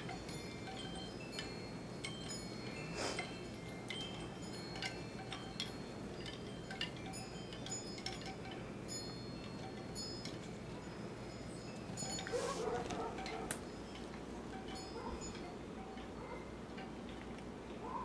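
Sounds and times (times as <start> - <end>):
wind chimes tinkling: 0.0 - 18.0.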